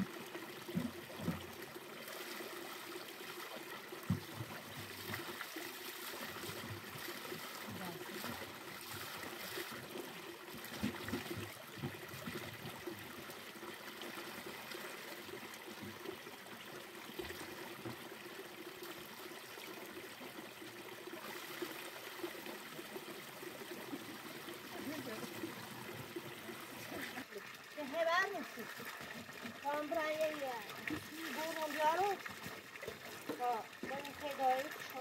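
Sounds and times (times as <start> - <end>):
stream running over stones: 0.0 - 35.0
water trickling into a jerrycan: 0.0 - 35.0.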